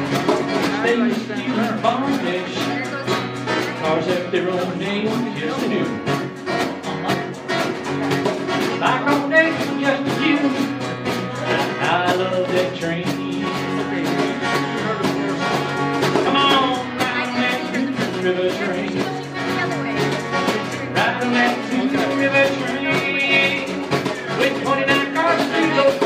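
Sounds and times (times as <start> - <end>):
djembe beat: 0.0 - 26.0
man singing: 0.0 - 26.0
strummed acoustic guitar: 0.0 - 26.0.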